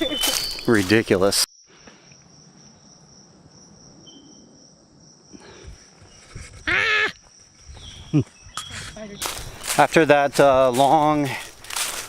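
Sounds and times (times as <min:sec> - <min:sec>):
insects trilling: 0:00.0 - 0:11.9.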